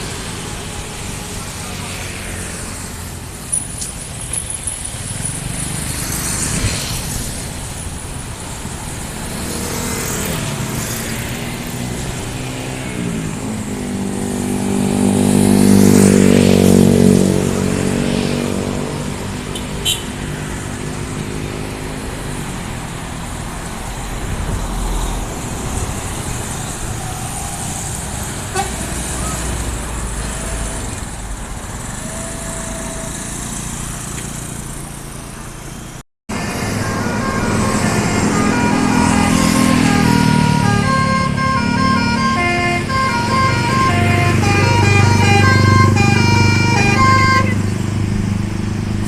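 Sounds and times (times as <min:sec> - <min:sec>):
heavy vehicle engine passing: 0:00.0 - 0:49.0
road traffic passing: 0:00.0 - 0:49.0.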